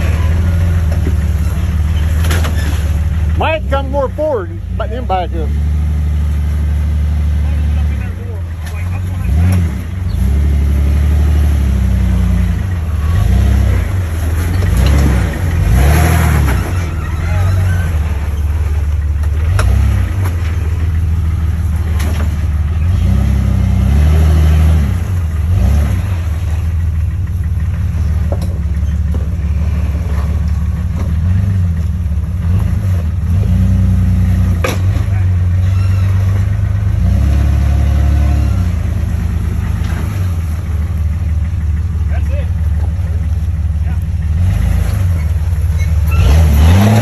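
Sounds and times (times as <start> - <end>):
engine revving at crawling speed: 0.0 - 47.0.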